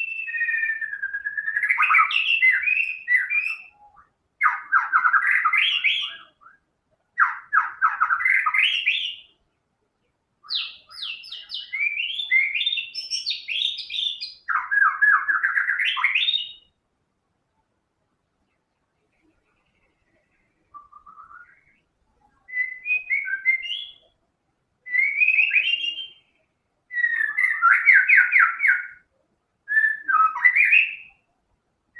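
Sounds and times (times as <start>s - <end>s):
bird singing trilled phrases: 0.0s - 9.6s, 10.4s - 16.8s, 18.5s - 24.2s, 24.8s - 29.1s, 29.7s - 31.3s.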